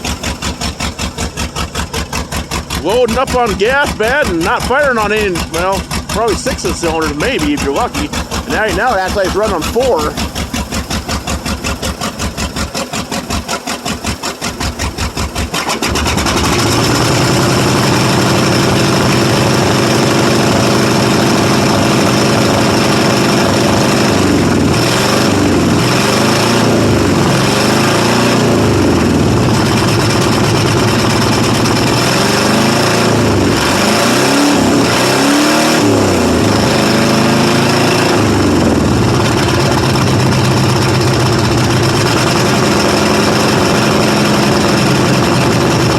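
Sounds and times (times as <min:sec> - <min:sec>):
misfiring truck engine revving: 0:00.0 - 0:45.9.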